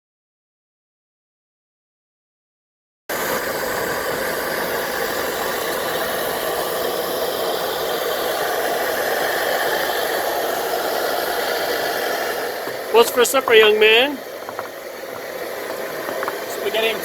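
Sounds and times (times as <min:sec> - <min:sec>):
camp stove hissing: 0:03.1 - 0:17.0.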